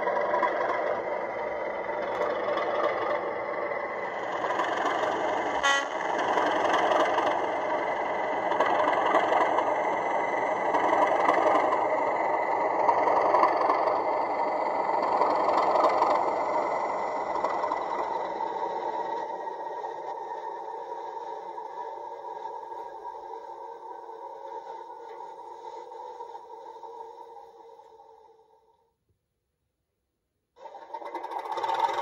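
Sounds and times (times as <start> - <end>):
diesel locomotive engine running: 0.0 - 28.6, 30.6 - 32.0.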